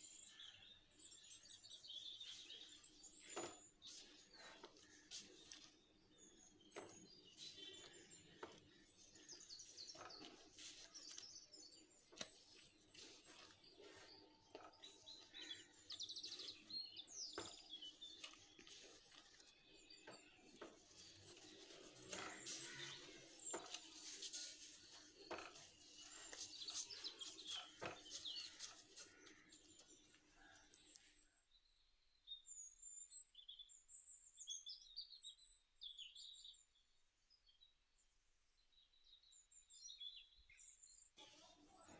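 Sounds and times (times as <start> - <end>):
birds chirping: 0.0 - 36.6.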